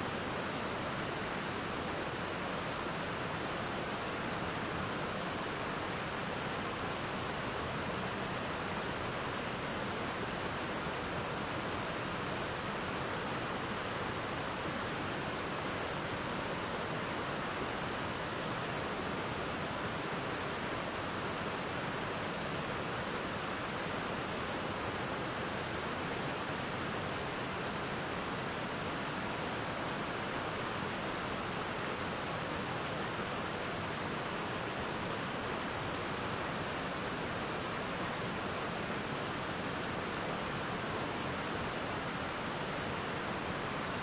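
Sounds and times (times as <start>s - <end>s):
water rushing over rapids: 0.0s - 44.0s.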